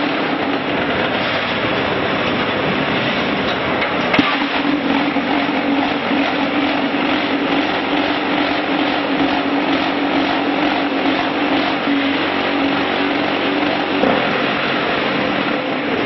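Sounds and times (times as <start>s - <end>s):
constant hum: 0.0s - 16.0s
loud mechanical machine noise: 0.0s - 16.0s.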